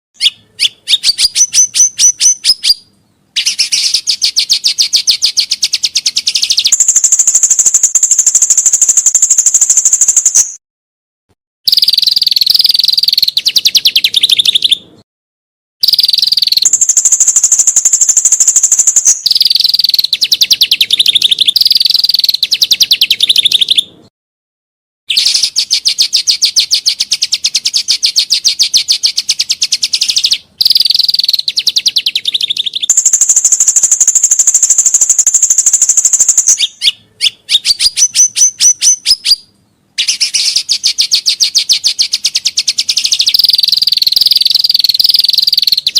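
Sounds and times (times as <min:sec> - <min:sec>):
songbird trilling: 0:00.2 - 0:10.6, 0:11.7 - 0:14.9, 0:15.8 - 0:23.9, 0:25.1 - 0:45.9.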